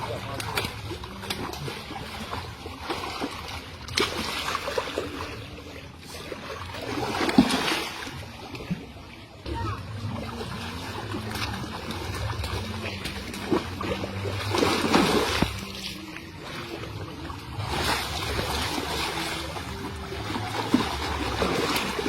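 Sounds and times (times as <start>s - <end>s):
water splashing and dripping: 0.0s - 22.0s.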